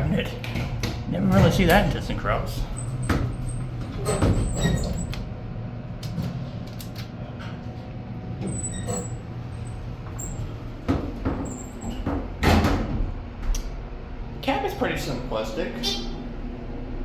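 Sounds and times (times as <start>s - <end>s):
elevator humming: 0.0s - 17.0s.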